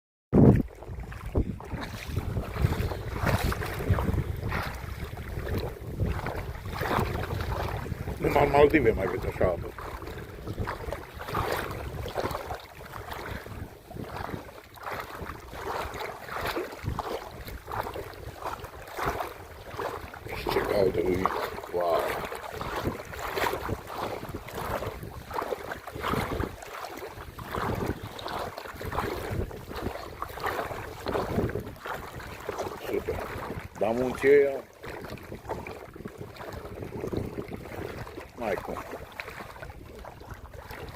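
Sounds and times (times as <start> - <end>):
wind buffeting microphone: 0.3 - 40.9
sea water splashing: 0.4 - 40.9.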